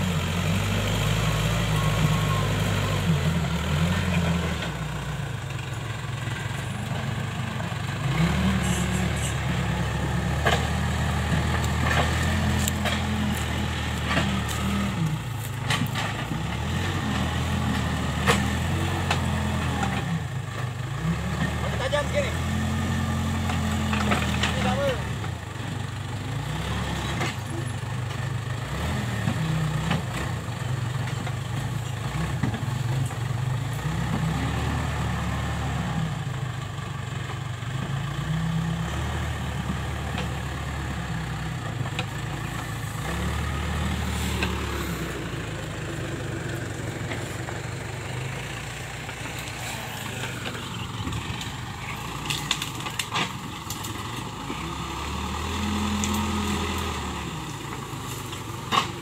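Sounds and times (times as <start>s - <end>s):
diesel engine revving under load: 0.0s - 59.0s.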